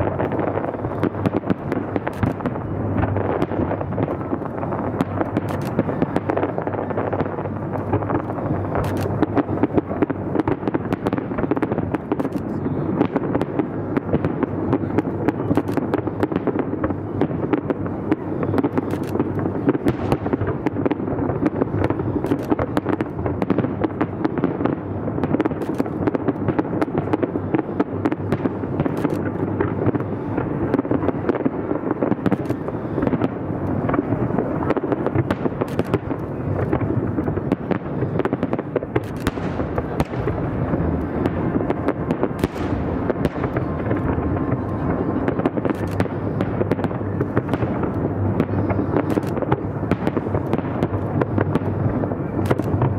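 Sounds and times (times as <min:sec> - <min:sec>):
fireworks exploding: 0:00.0 - 0:52.9.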